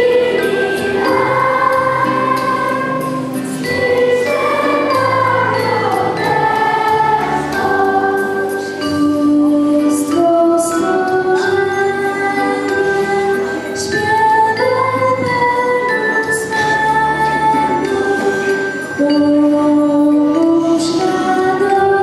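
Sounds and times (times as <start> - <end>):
children's choir singing a carol: 0.0 - 22.0.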